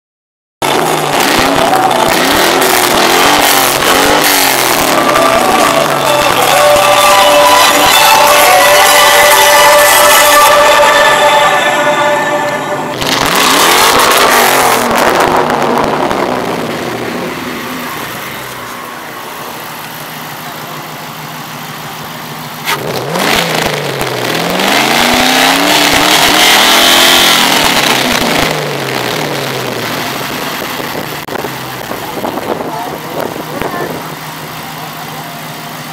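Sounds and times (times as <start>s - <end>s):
car engine revving: 0.6s - 35.9s.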